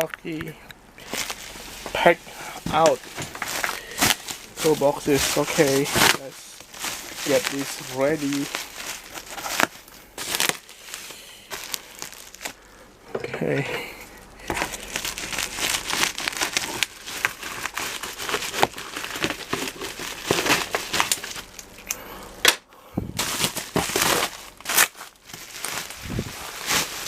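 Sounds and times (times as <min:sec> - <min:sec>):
packaging crinkling and rustling: 0:00.0 - 0:12.6, 0:14.4 - 0:21.9, 0:23.2 - 0:27.0.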